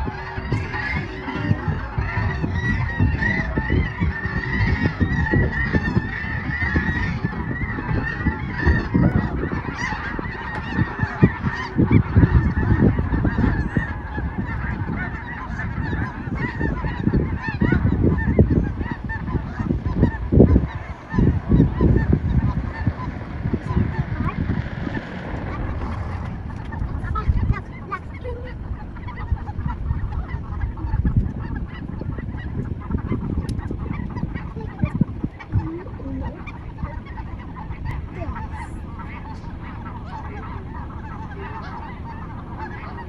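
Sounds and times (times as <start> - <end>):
flock of geese honking: 0.0 - 43.0
low rumble: 0.0 - 43.0.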